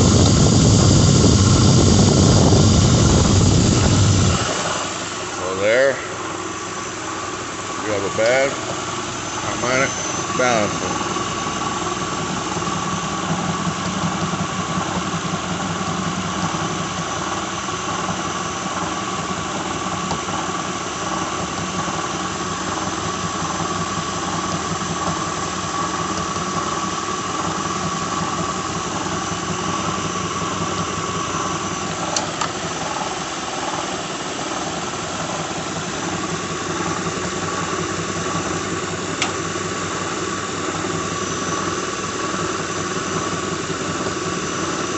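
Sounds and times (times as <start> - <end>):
car engine running with whine: 0.0 - 44.9
engine rattle: 0.0 - 44.9.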